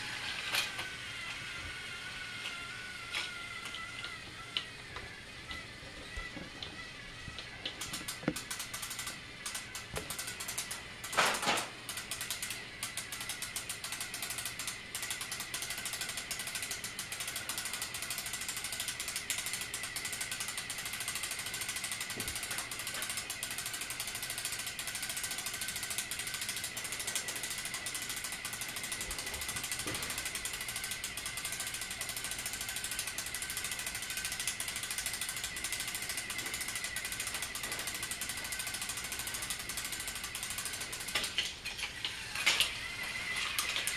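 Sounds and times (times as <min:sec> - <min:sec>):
small geared motor ticking and whining: 0:00.0 - 0:43.9.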